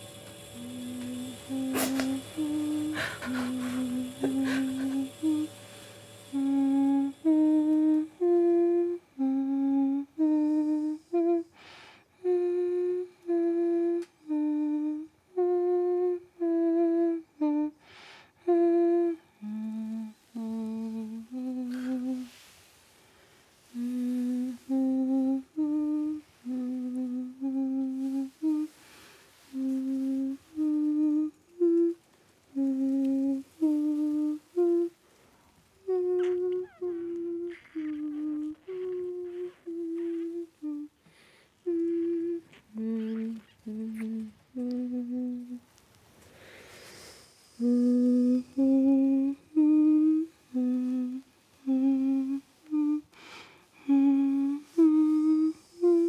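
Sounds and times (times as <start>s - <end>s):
woman humming: 0.0s - 11.6s, 12.2s - 17.8s, 18.4s - 22.6s, 23.6s - 35.0s, 35.8s - 45.7s, 46.9s - 56.0s.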